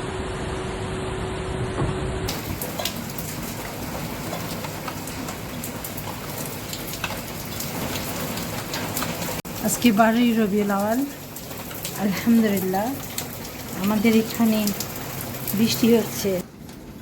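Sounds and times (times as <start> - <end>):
rain falling: 2.3 - 17.0
raindrops ticking on hard surface: 2.3 - 17.0.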